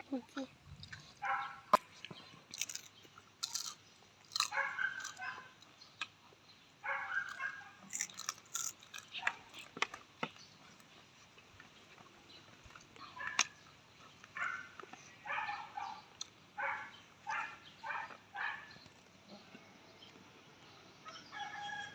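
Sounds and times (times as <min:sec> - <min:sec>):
chewing and crunching food: 0:00.2 - 0:20.2.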